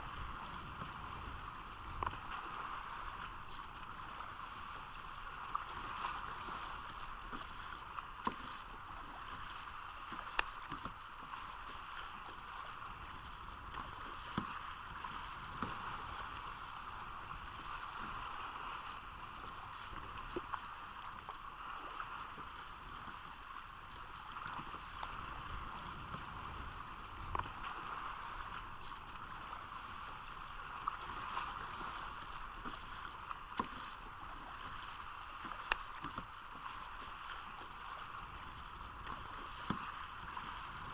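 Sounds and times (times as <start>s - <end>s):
water sloshing around kayak: 0.0s - 40.9s.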